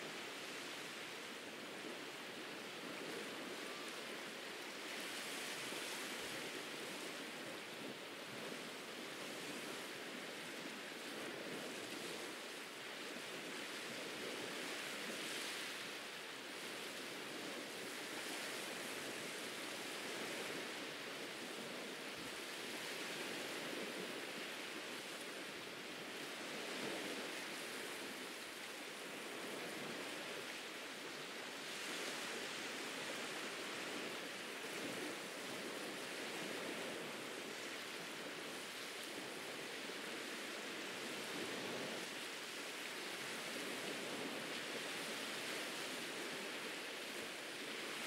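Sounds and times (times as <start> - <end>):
ocean surf washing onto beach: 0.0 - 48.0.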